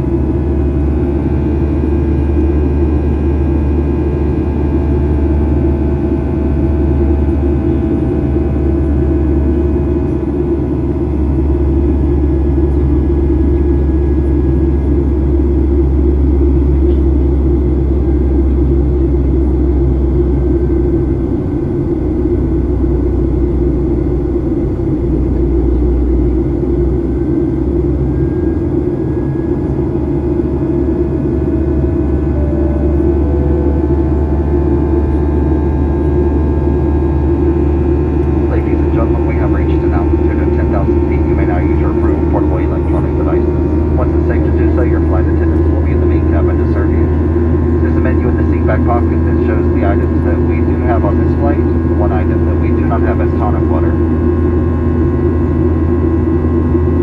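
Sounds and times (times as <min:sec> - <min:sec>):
airplane cabin engine rumble: 0:00.0 - 0:57.0
faint high engine tones: 0:00.0 - 0:57.0.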